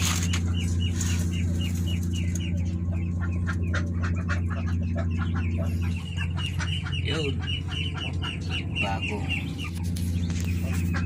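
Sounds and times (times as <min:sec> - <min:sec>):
ducklings peeping: 0:00.0 - 0:11.0
steady low hum: 0:00.0 - 0:11.0.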